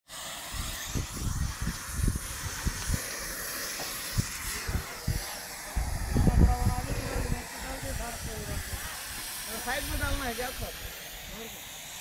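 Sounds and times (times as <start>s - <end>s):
wind hiss on microphone: 0.1s - 12.0s
wind buffeting thumps: 0.6s - 10.8s.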